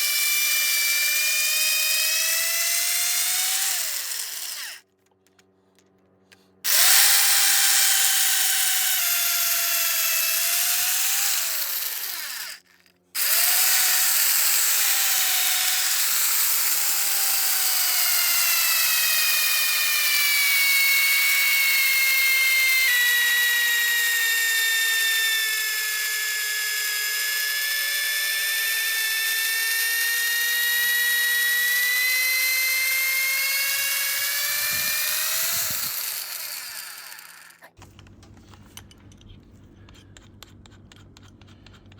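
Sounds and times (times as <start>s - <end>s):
power drill boring into wood: 0.0s - 4.8s, 6.7s - 37.7s.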